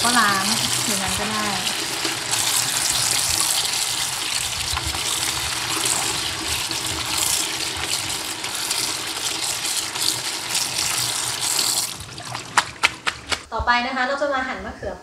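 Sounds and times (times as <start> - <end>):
tap water splashing into sink: 0.0 - 13.5.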